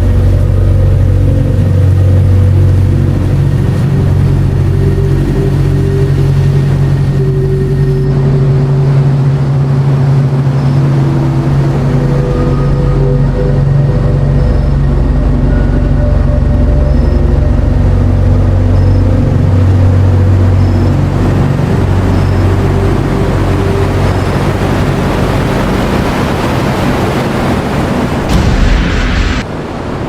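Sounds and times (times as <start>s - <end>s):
car engine humming: 0.0s - 29.5s
road noise: 0.0s - 30.0s.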